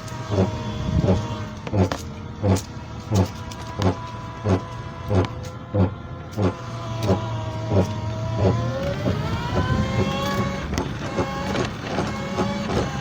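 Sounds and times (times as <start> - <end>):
grinding knock: 0.0 - 13.0
scooter motor whining: 0.0 - 13.0.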